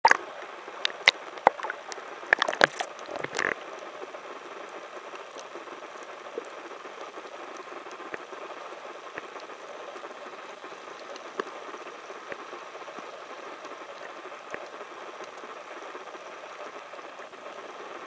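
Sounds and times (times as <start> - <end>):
water splashing against camera: 0.0 - 15.6
faint underwater ticks: 0.0 - 18.0.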